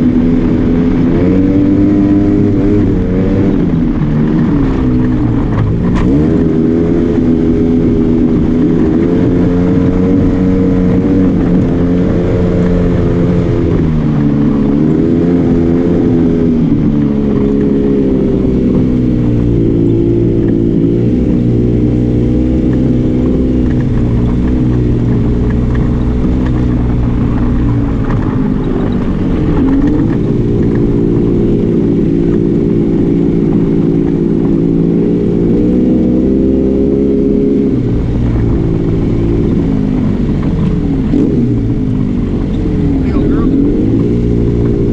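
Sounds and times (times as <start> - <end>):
vehicle engine running under load: 0.0 - 44.9.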